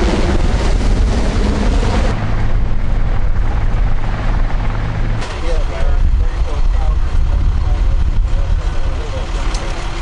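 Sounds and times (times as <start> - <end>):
helicopter rotor rumble: 0.0 - 10.0.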